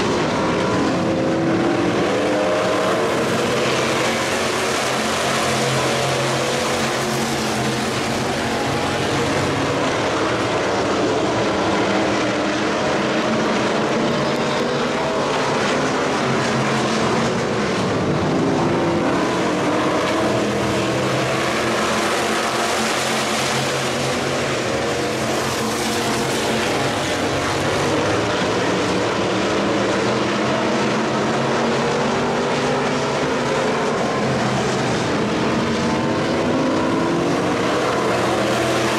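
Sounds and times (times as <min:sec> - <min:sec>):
race car engines: 0:00.0 - 0:38.9.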